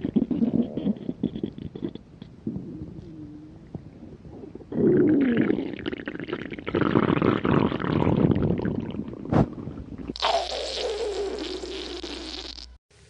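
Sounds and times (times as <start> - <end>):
stomach gurgling rumbles: 0.0 - 10.5
stomach growling: 0.0 - 12.6.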